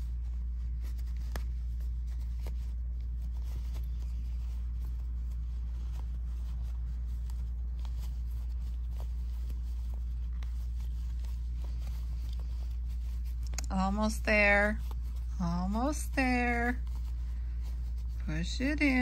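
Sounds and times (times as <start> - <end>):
fabric rustling and crumpling: 0.0 - 19.0
steady low hum: 0.0 - 19.0.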